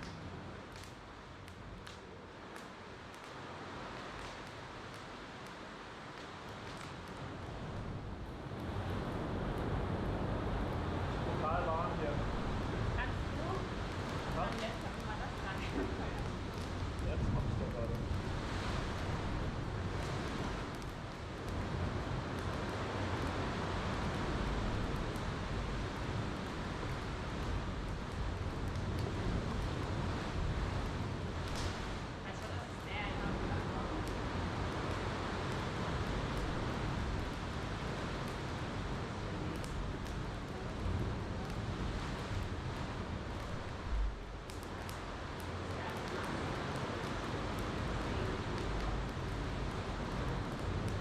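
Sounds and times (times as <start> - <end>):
faint campfire crackles: 0.0 - 51.0
ocean surf washing in: 2.2 - 51.0.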